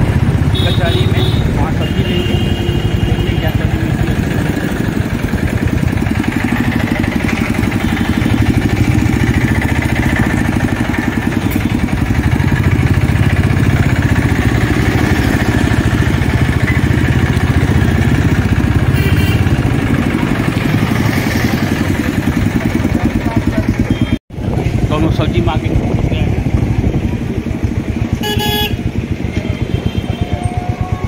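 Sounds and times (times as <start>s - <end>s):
motorcycle engine running: 0.0s - 31.0s
road noise: 0.0s - 31.0s.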